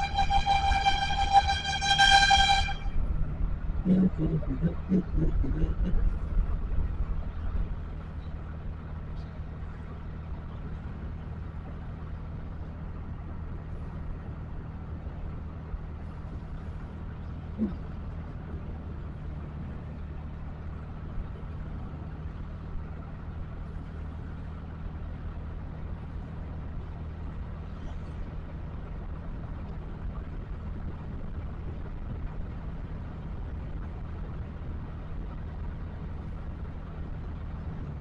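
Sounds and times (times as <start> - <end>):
road noise: 0.0 - 38.0
vehicle engine humming: 0.0 - 38.0.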